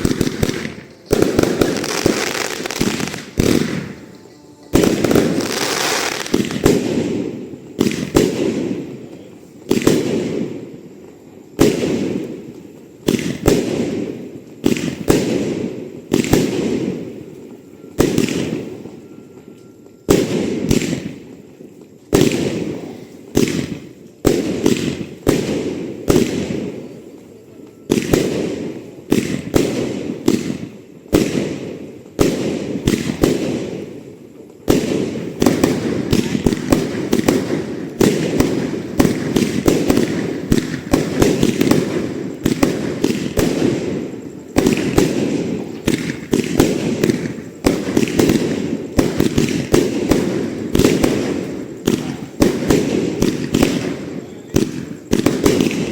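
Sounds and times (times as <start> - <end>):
fireworks exploding: 0.0 - 55.9.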